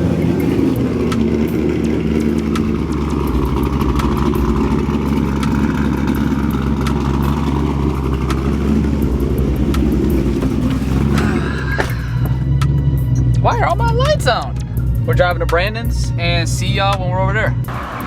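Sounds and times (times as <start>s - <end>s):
car engine running: 0.0s - 16.8s.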